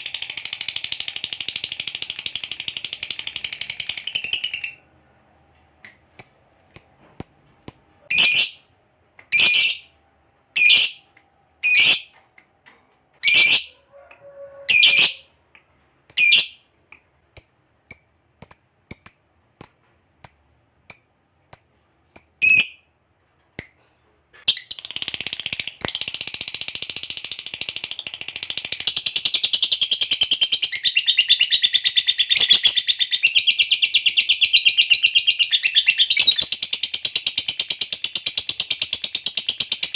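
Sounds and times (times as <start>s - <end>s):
lovebird chirping and trilling: 0.2s - 4.8s, 6.2s - 8.6s, 9.3s - 9.9s, 10.6s - 12.1s, 13.2s - 13.7s, 14.7s - 15.2s, 16.1s - 22.8s, 24.5s - 39.9s.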